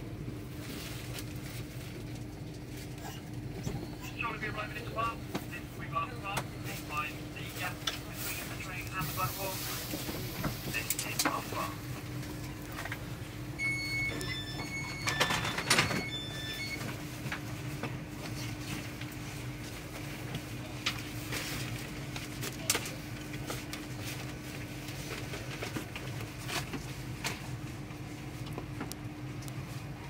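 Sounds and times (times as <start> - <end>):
train hum: 0.0 - 30.0.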